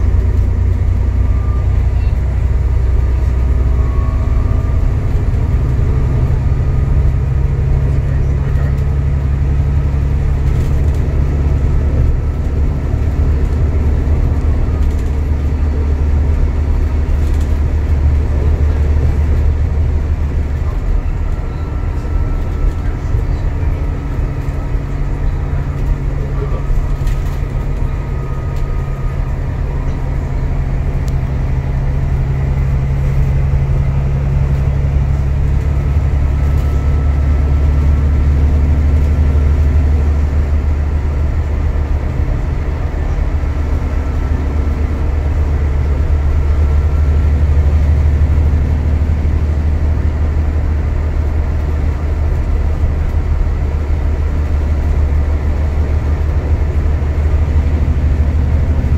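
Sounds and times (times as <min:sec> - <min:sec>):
bus engine drone: 0:00.0 - 0:58.9
road noise: 0:00.0 - 0:58.9.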